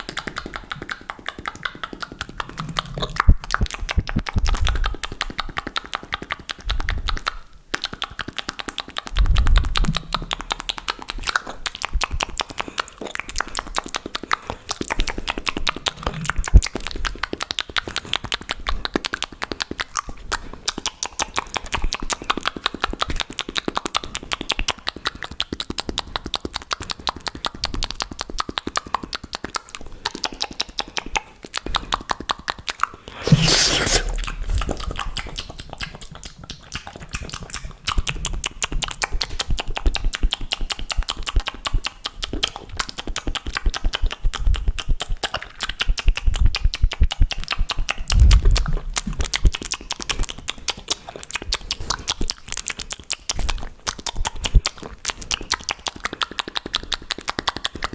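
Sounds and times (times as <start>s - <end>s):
wet mouth clicks and smacks: 0.0s - 57.9s.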